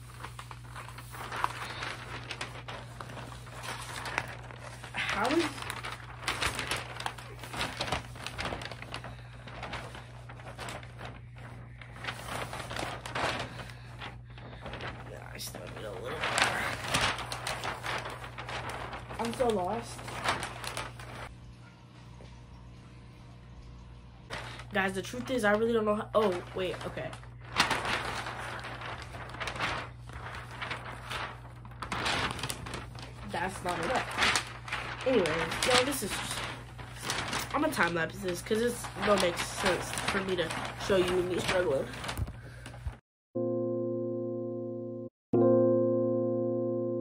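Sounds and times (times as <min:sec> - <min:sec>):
wrapping paper rustling: 0:00.0 - 0:21.3, 0:24.3 - 0:43.0.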